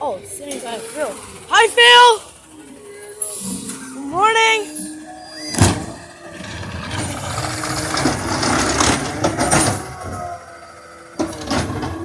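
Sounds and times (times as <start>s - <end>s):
garbage truck running: 0.0s - 12.0s.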